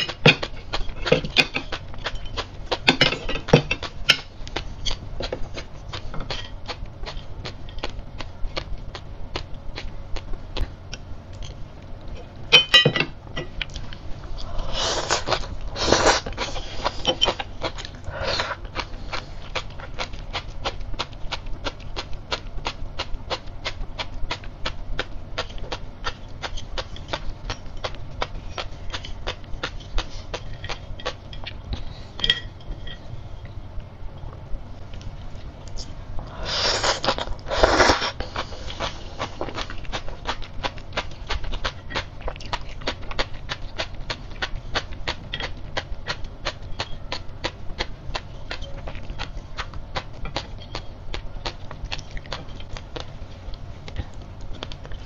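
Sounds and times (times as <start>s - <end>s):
chewing with small pops: 0.0s - 12.2s, 15.2s - 31.9s, 37.0s - 55.0s.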